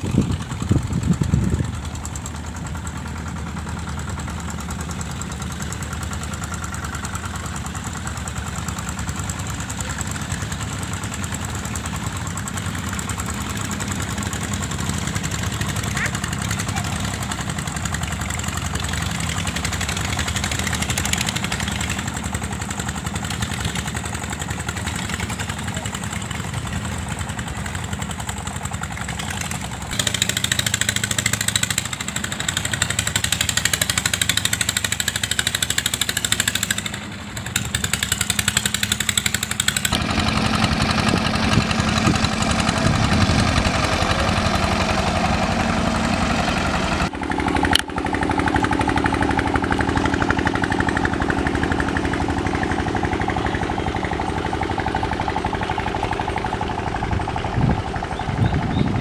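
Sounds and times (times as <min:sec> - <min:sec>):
boat engines droning: 0:00.0 - 0:59.0.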